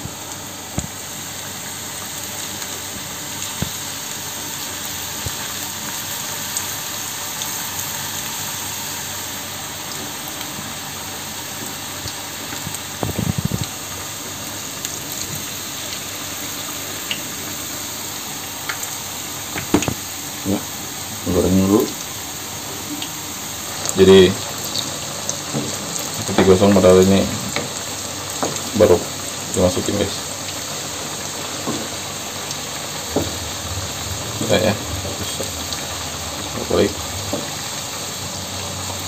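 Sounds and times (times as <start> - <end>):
fritters sizzling in hot oil: 0.0 - 39.0.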